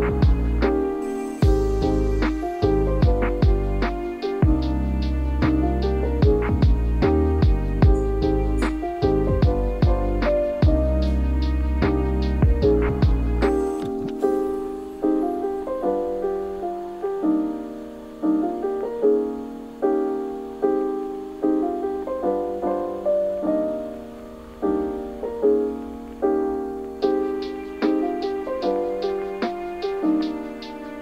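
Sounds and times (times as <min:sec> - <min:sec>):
lo-fi piano chords: 0:00.0 - 0:31.0.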